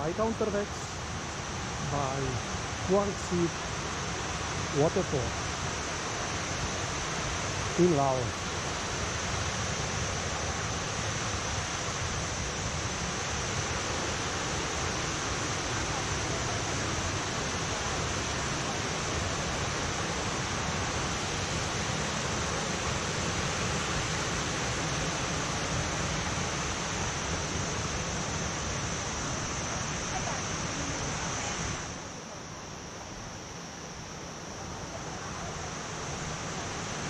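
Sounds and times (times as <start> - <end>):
waterfall rushing water: 0.0 - 37.0.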